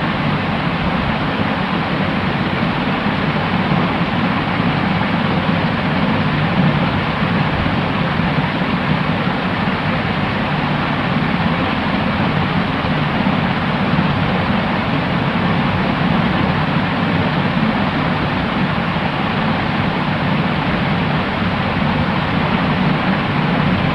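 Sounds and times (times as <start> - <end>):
steady white noise hiss: 0.0 - 23.9.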